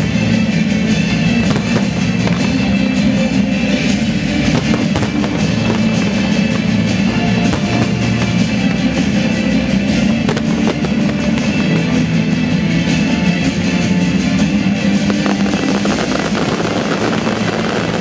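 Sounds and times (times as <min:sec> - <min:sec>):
fireworks bursting and crackling: 0:00.0 - 0:18.0
loud music: 0:00.0 - 0:18.0.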